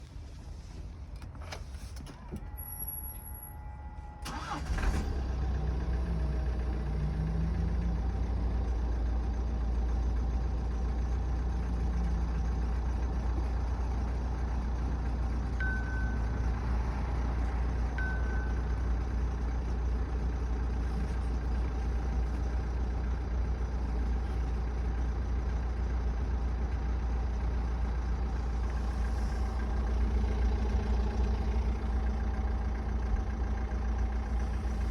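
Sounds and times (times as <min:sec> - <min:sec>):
diesel engine starting and idling: 0:00.0 - 0:34.9.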